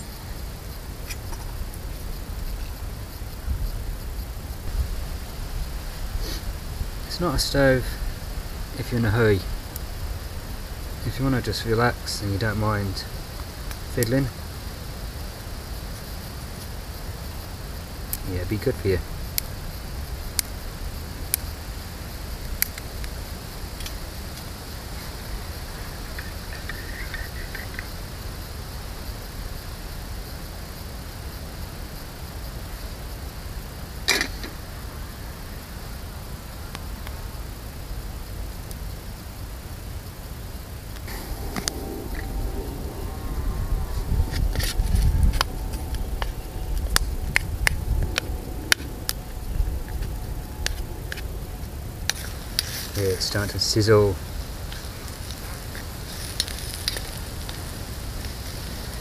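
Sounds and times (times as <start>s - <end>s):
wind buffeting microphone: 0.0s - 29.7s, 40.1s - 59.0s.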